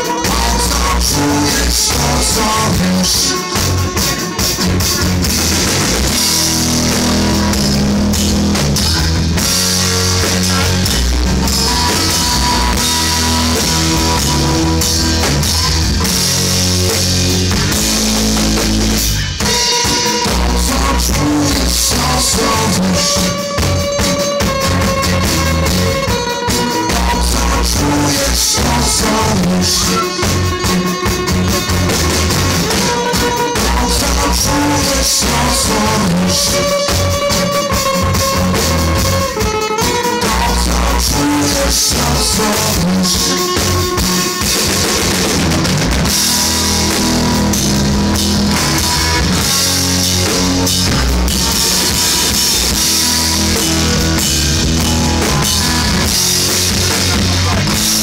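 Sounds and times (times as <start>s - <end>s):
live band playing rock song: 0.0s - 58.0s.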